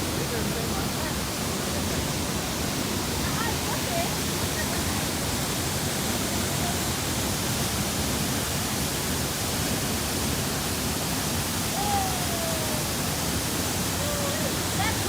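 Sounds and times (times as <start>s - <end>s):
waterfall roar: 0.0s - 15.0s.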